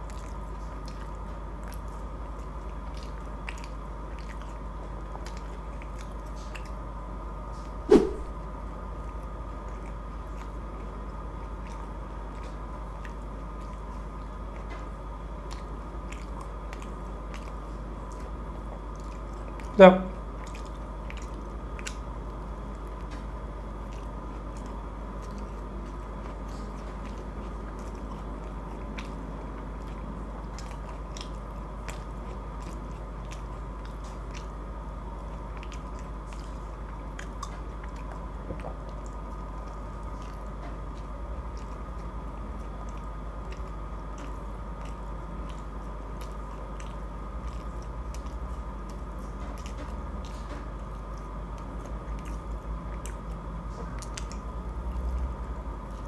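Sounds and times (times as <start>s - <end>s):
chewing and biting food: 0.0s - 56.0s
steady low hum: 0.0s - 56.0s.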